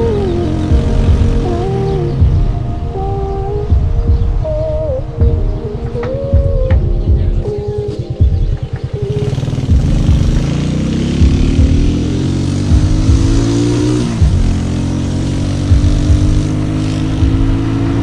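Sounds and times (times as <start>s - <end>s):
motorcycle engine accelerating: 0.0s - 2.9s, 6.2s - 18.0s
wind and road noise: 0.0s - 18.0s.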